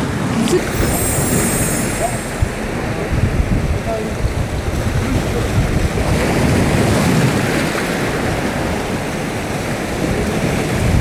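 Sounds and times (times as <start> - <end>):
sea waves washing against rocks: 0.0 - 11.0
wind rumbling on microphone: 0.0 - 11.0.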